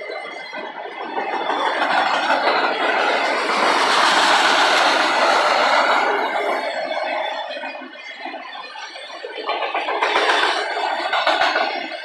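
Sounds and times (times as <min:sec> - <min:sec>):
freight cars rolling on rails: 0:00.0 - 0:12.0.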